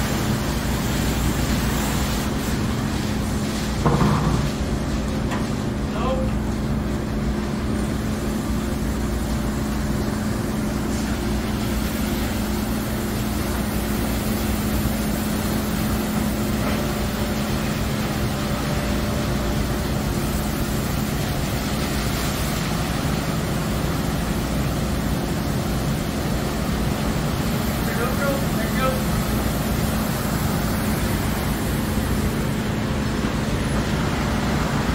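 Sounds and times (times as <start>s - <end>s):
constant rushing noise: 0.0s - 34.9s.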